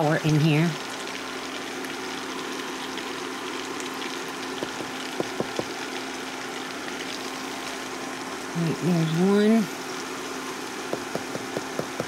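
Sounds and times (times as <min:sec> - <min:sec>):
cooktop hum: 0:00.0 - 0:12.0
butter sizzling in frying pan: 0:00.5 - 0:08.6, 0:09.4 - 0:12.0.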